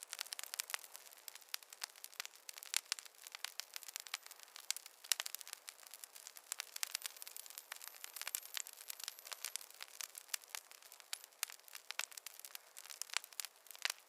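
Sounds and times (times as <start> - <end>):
faint hiss: 0.0 - 14.0
wood fire crackling: 0.0 - 14.0.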